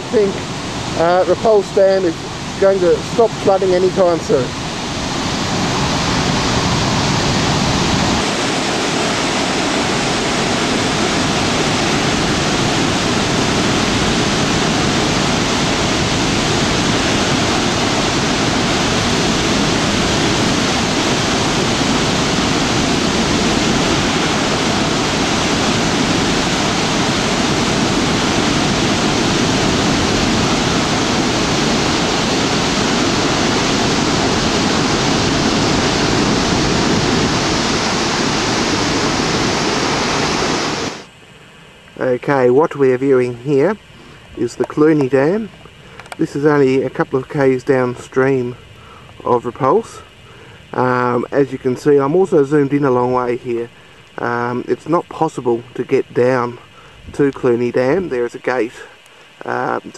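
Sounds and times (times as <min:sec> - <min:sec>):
water rushing over a dam: 0:00.0 - 0:59.9.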